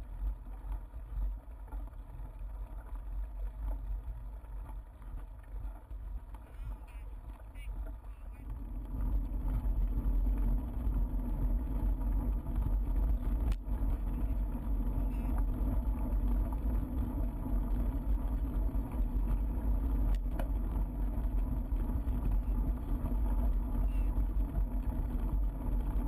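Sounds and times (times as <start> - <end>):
bicycle rolling over gravel: 0.0 - 26.0.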